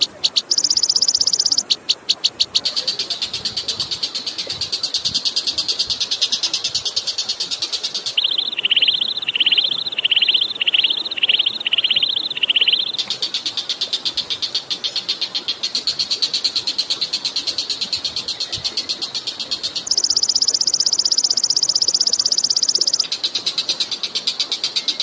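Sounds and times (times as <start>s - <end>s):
songbird trilling: 0.0s - 23.7s
faint running water hiss: 0.0s - 25.0s.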